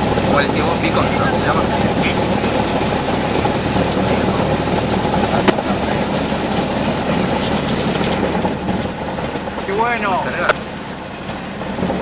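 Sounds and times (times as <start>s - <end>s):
aircraft piston engine running: 0.0s - 12.0s.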